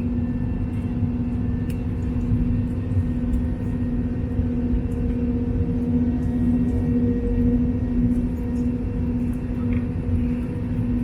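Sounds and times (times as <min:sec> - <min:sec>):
airliner cabin engine drone: 0:00.0 - 0:11.0.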